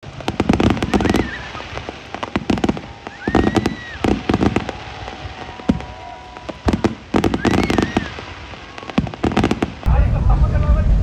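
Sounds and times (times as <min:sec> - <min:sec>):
fireworks pops and crackles: 0:00.0 - 0:10.0
thin firework whistle: 0:00.3 - 0:09.7.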